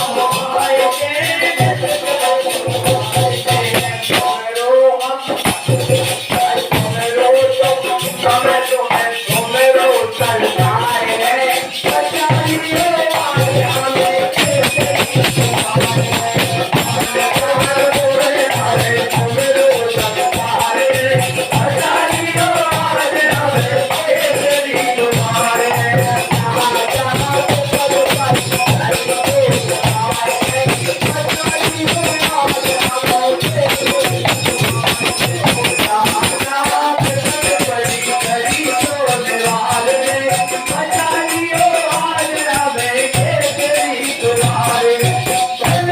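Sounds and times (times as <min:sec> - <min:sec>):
hand percussion beat: 0:00.0 - 0:45.9.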